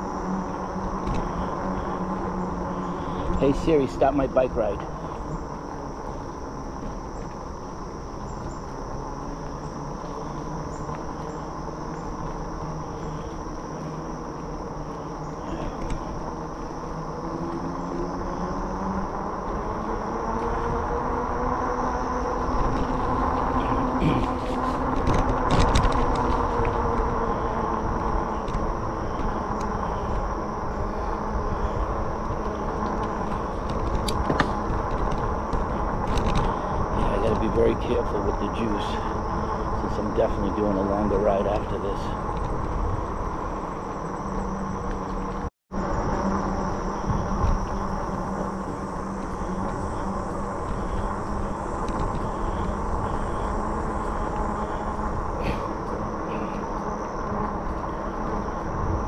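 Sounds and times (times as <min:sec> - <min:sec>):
electric bike rolling hum: 0:00.0 - 0:59.0
motor whine: 0:00.0 - 0:59.0
steady high buzz: 0:00.0 - 0:59.0.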